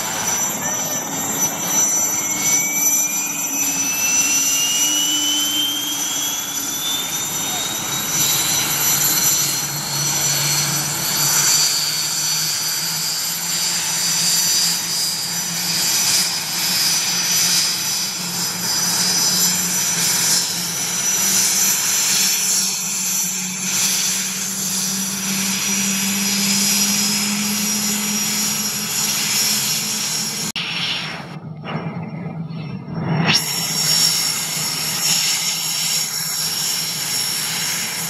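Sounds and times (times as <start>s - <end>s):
helicopter engine and rotors: 0.0s - 38.0s
high turbine whine: 0.0s - 38.0s.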